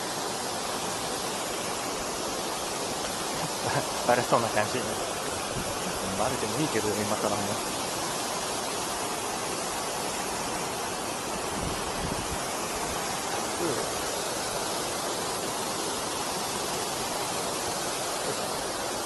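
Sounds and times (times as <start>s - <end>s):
river water rushing over weir: 0.0s - 19.0s.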